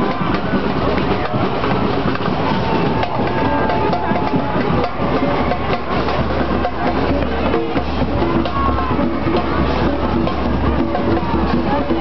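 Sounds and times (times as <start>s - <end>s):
parade music with drums: 0.0s - 12.0s
street crowd din: 0.0s - 12.0s.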